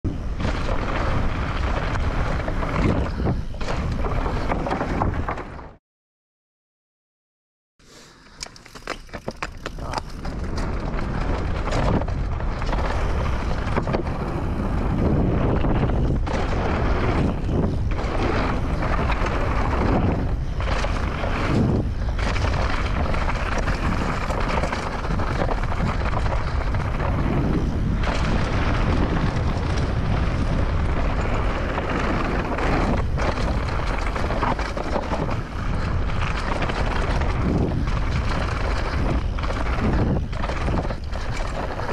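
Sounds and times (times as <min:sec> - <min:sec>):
wind buffeting microphone: 0:00.1 - 0:05.3, 0:09.6 - 0:41.9
tyres rolling over gravel: 0:00.1 - 0:05.7, 0:08.4 - 0:41.9
bike knocks and rattles: 0:00.1 - 0:05.8, 0:08.4 - 0:41.9.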